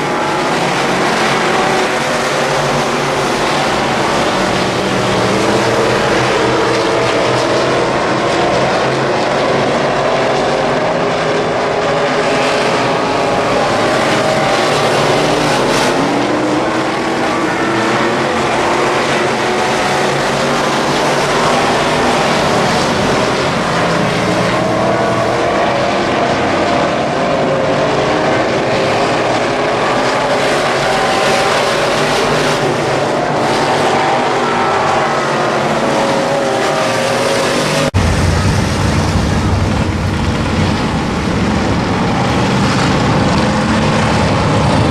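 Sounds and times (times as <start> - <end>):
race car engine revving: 0.0 - 44.9.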